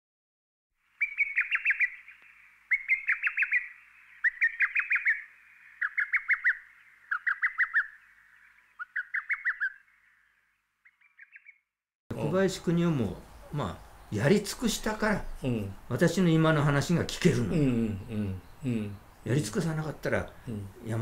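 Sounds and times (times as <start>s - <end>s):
bird chirping: 0.8s - 21.0s.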